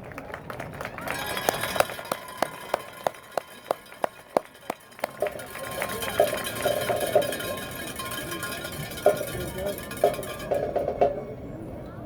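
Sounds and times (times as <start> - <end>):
marching band held high chords: 1.0 - 10.9
short percussion hits: 1.1 - 11.3.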